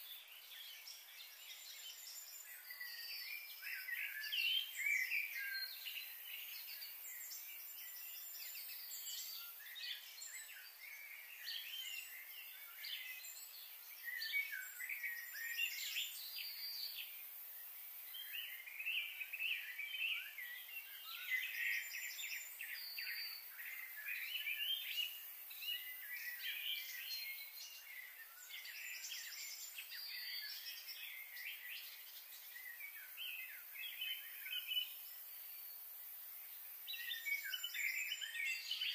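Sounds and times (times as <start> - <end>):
faint high hiss: 0.0 - 38.9
small birds chirping: 0.0 - 38.9.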